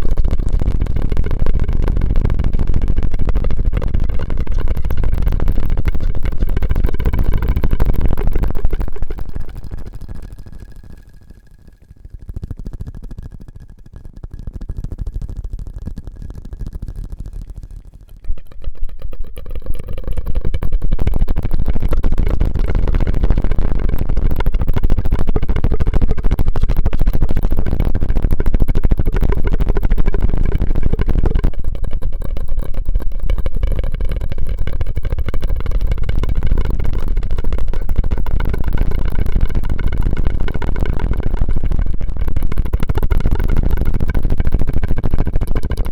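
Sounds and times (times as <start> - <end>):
mouth clicking and crackling: 0.0 - 45.9.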